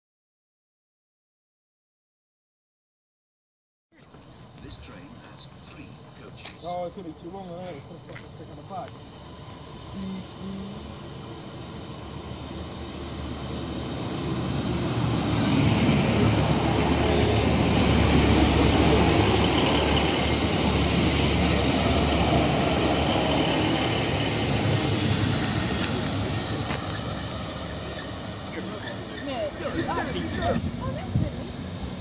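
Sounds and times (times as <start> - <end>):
diesel train engine and wheel rumble: 4.0 - 32.0.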